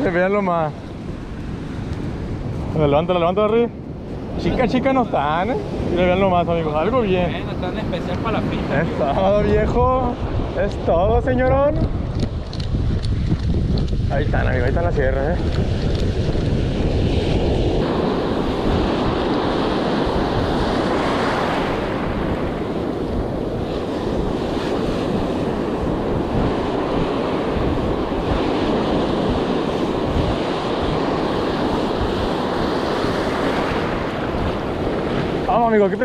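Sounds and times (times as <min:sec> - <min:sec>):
ocean surf on sand: 0:00.0 - 0:36.0
wind buffeting microphone: 0:00.0 - 0:36.0.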